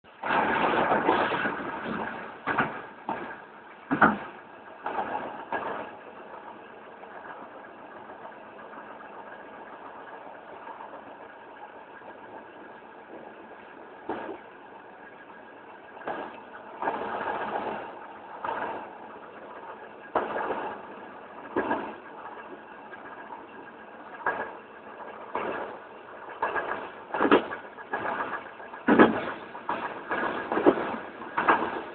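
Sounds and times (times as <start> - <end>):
train running: 0.0 - 31.9
train knocks and clunks: 0.1 - 31.9.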